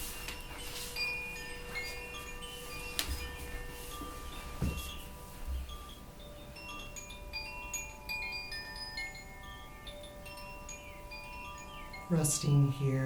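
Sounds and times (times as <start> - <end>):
wind chimes ringing: 0.0 - 13.0.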